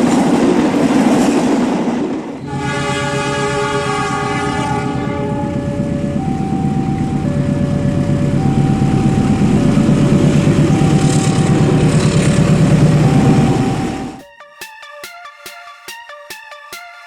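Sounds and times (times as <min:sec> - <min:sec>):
train rumbling past: 0:00.0 - 0:14.2
two-tone level crossing alarm: 0:02.5 - 0:17.0.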